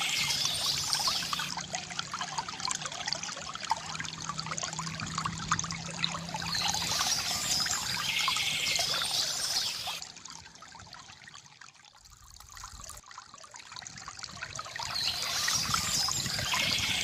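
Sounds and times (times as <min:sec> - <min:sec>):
water trickling and gurgling: 0:00.0 - 0:17.0.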